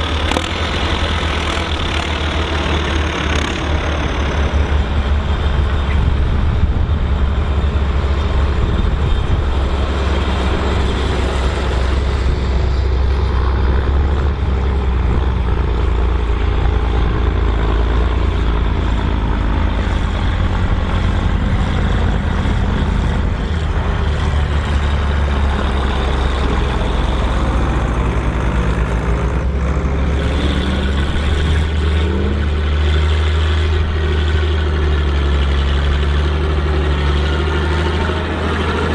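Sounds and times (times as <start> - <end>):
tractor diesel engine rumbling: 0.0 - 38.9.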